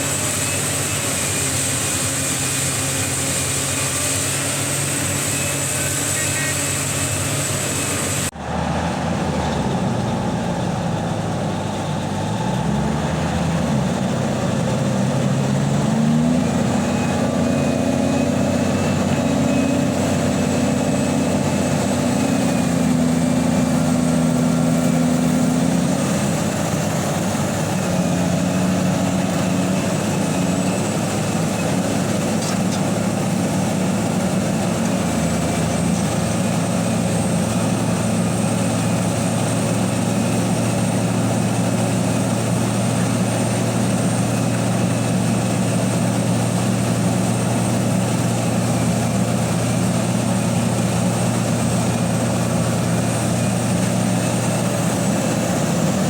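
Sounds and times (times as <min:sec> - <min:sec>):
excavator diesel engine working: 0:00.0 - 0:56.0.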